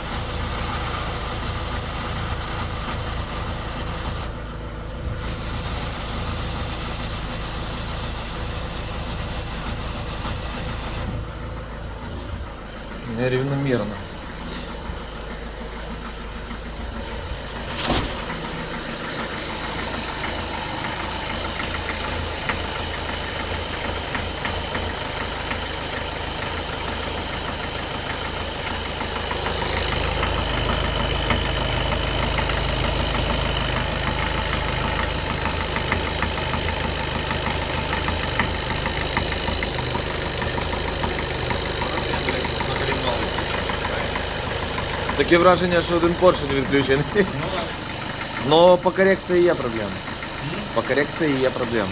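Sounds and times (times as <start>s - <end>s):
diesel engine idling unevenly: 0.0s - 51.9s.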